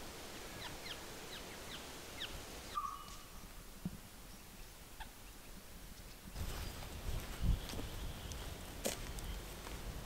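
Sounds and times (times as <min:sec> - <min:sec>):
background hiss: 0:00.0 - 0:10.0
birds chirping: 0:00.3 - 0:03.6, 0:04.2 - 0:09.8.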